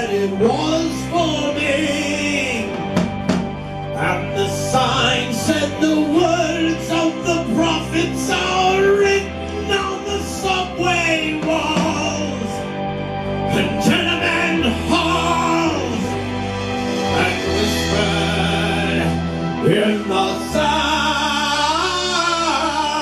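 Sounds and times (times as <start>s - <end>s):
band playing folk-rock: 0.0s - 23.0s
wavering melodic lead line: 0.0s - 23.0s.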